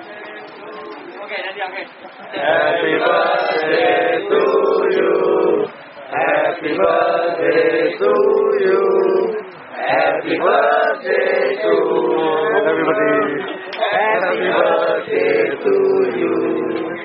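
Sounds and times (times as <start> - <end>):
group singing in unison: 2.3 - 17.0.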